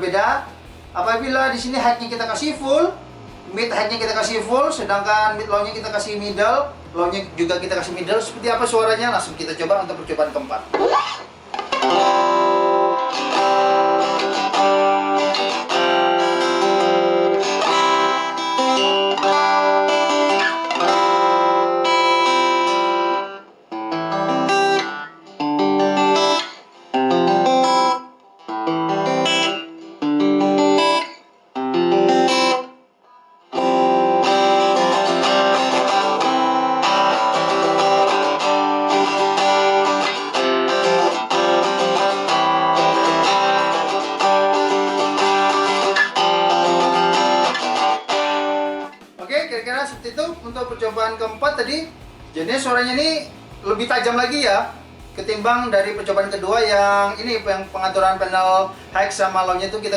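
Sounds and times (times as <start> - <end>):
acoustic guitar through amplifier: 0.0 - 59.9.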